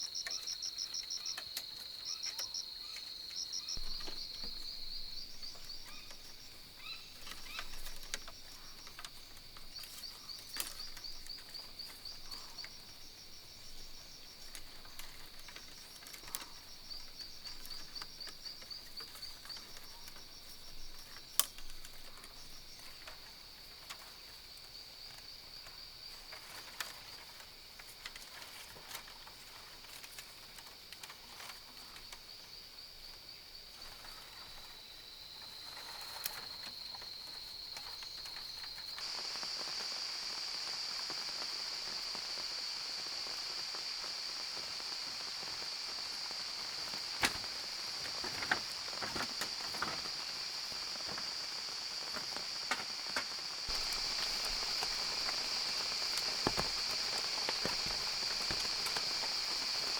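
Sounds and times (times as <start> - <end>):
insect chorus trilling: 0.0 - 59.9.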